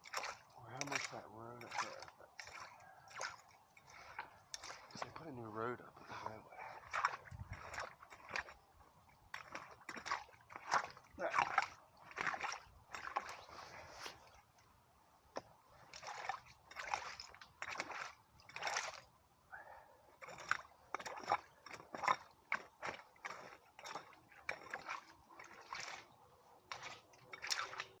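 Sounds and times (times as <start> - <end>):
splashing in shallow water and mud: 0.0 - 28.0.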